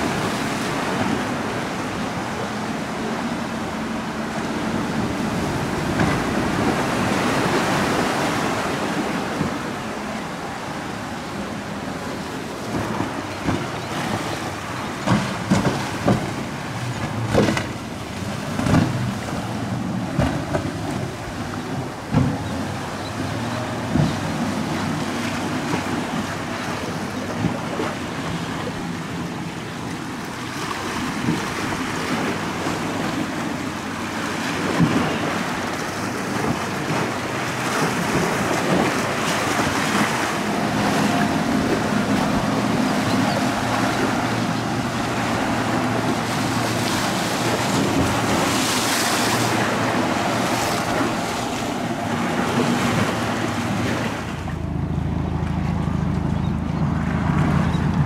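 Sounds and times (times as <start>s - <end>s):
boat engine drone: 0.0s - 58.0s
water splashing: 0.0s - 58.0s.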